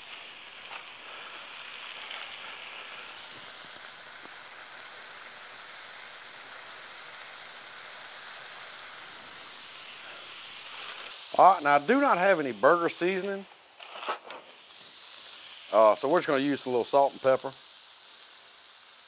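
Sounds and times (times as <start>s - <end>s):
burger patties sizzling on griddle: 0.0s - 19.0s.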